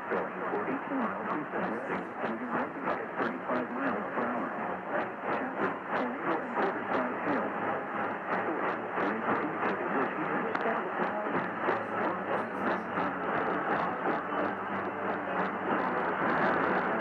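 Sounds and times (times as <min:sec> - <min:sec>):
interference clicks: 0:00.0 - 0:17.0
radio static hiss: 0:00.0 - 0:17.0.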